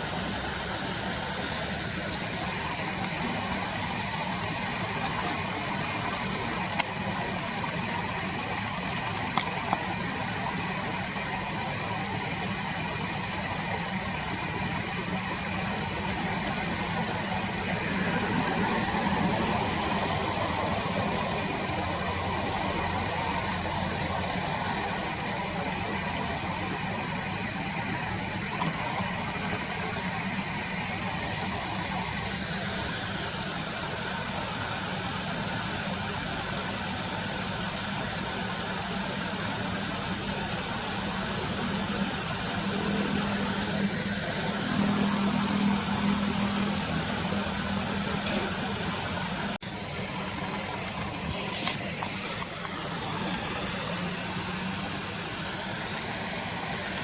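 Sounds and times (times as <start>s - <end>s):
steady high buzz: 0.0s - 57.0s.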